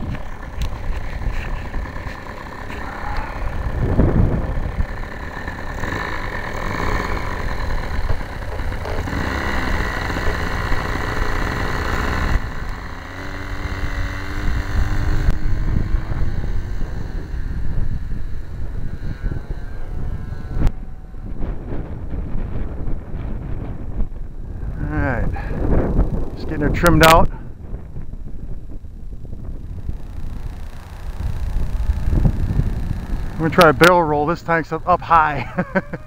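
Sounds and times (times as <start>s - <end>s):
model plane engine running: 0.0s - 27.6s, 28.2s - 36.0s.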